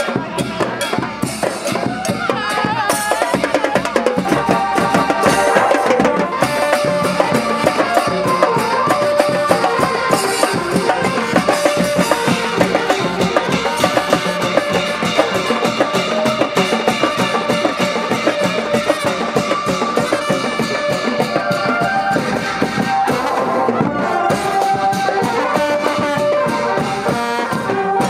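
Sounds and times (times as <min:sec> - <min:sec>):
drums and cymbals beat: 0:00.0 - 0:28.0
trumpets and trombone holding notes: 0:04.1 - 0:28.0.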